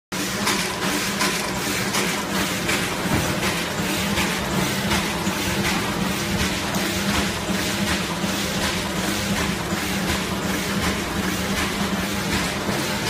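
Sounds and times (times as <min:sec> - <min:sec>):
packaging machine running: 0:00.2 - 0:13.0.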